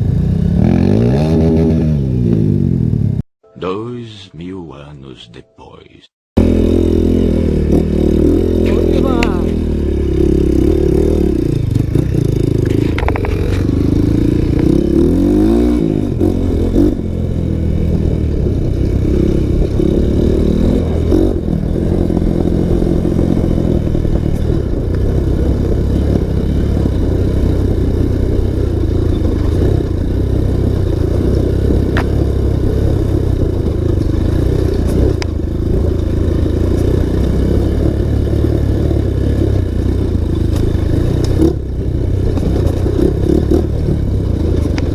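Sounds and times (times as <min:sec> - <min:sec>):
dirt bike engine revving: 0:00.0 - 0:03.2, 0:06.4 - 0:44.9.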